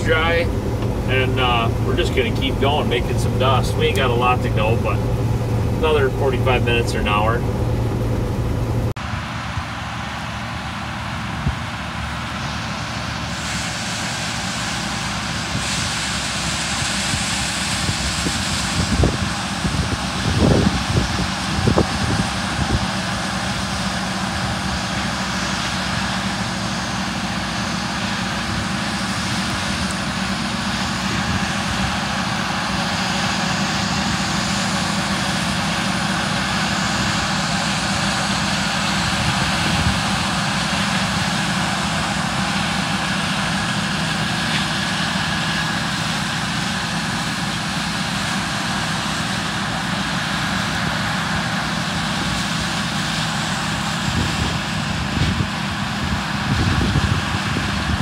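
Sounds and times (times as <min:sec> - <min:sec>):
diesel engines and threshing drone: 0:00.0 - 0:58.0.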